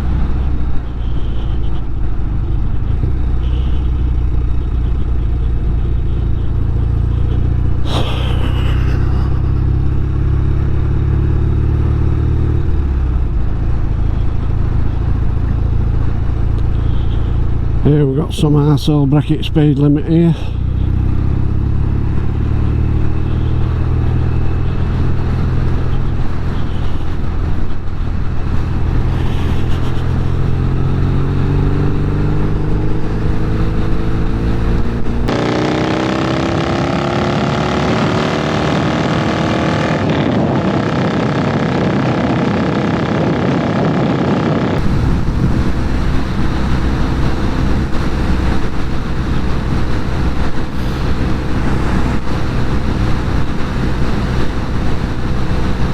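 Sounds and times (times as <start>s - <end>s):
brighter noisier engine note: 0.0s - 55.9s
motorcycle engine running: 0.0s - 55.9s.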